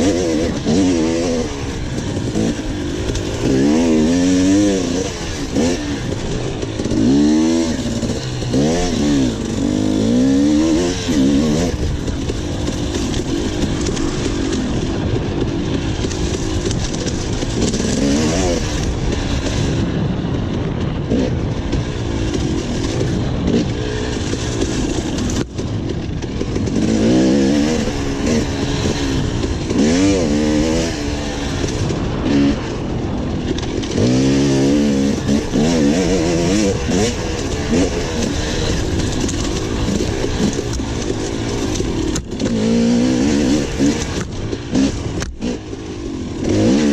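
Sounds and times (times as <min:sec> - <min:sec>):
dirt bike engine revving: 0:00.0 - 0:46.9
wind and terrain noise: 0:00.0 - 0:46.9.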